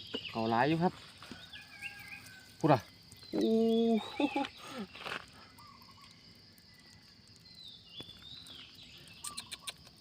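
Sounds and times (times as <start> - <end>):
high insect drone: 0.0 - 10.0.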